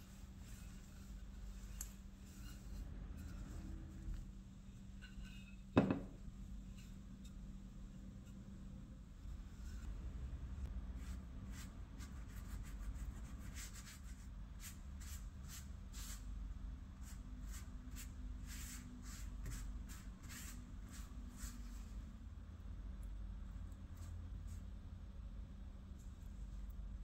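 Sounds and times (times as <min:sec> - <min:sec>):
pastry brush strokes on dough: 0:00.0 - 0:22.3, 0:23.4 - 0:25.1
low steady hum: 0:00.0 - 0:27.0.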